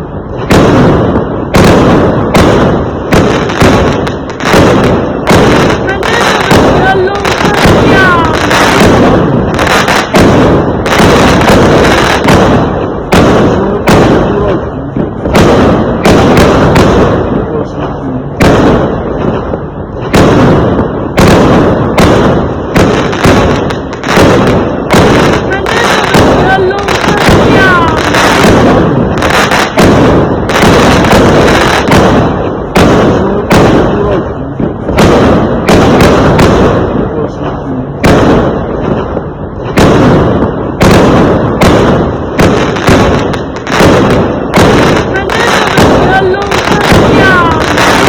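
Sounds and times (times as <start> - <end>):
fireworks bangs: 0.0 - 48.0.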